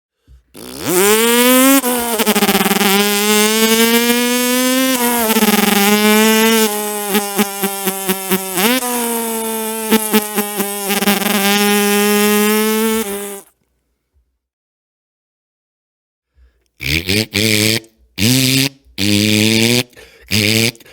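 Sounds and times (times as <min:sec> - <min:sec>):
man imitating an engine: 0:00.5 - 0:13.5, 0:16.8 - 0:20.9.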